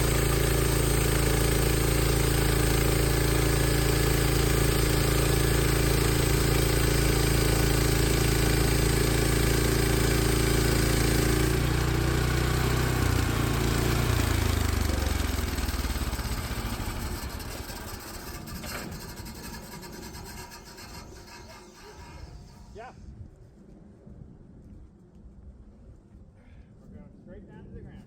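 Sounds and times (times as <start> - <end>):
bandsaw mill engine running: 0.0 - 22.9.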